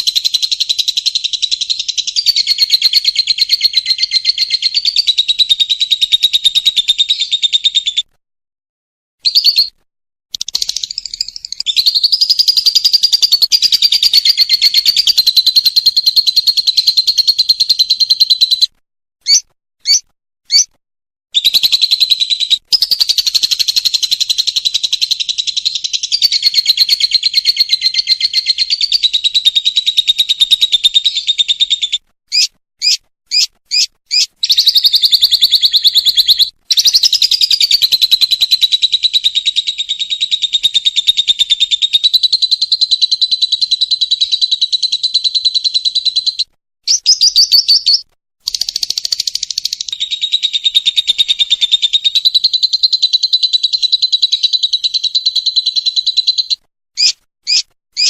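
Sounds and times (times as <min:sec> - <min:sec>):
bird trilling chatter: 0:00.0 - 0:08.1, 0:10.4 - 0:20.7, 0:21.4 - 0:58.0
short bird chirps: 0:09.2 - 0:20.8, 0:21.4 - 0:58.0.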